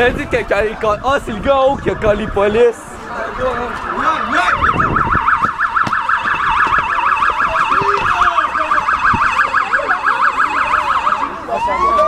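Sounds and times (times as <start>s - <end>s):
faint voices: 0.0s - 12.0s
police siren warbling: 1.9s - 12.0s.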